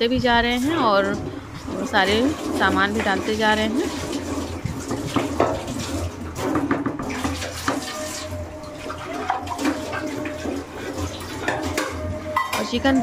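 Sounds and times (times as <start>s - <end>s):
curry sizzling and bubbling: 0.0s - 13.0s.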